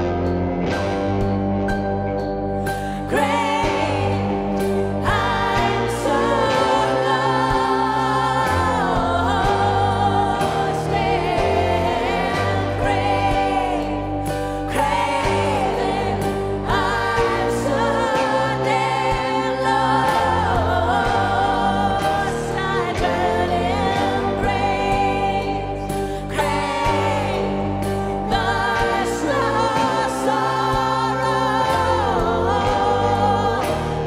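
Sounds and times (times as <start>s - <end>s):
held accompanying chords: 0.0s - 34.0s
woman singing into a microphone: 3.0s - 34.0s.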